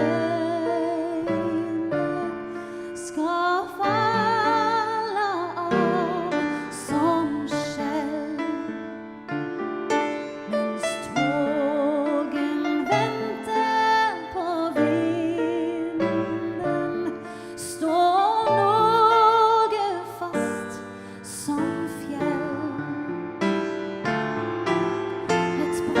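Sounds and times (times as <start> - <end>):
woman singing with vibrato: 0.0 - 8.8, 10.5 - 22.9, 25.6 - 26.0
piano accompaniment: 0.0 - 26.0.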